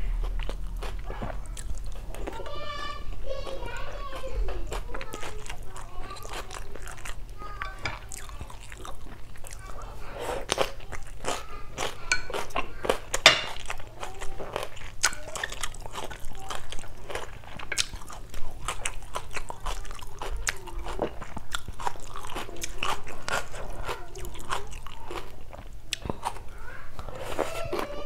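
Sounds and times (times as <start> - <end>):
person chewing and crunching food: 0.0 - 28.0.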